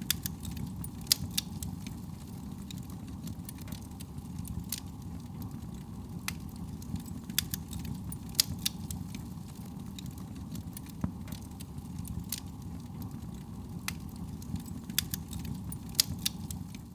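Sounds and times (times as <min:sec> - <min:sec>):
low rumble of flame: 0:00.0 - 0:16.9
wood fire crackling and popping: 0:00.0 - 0:16.9.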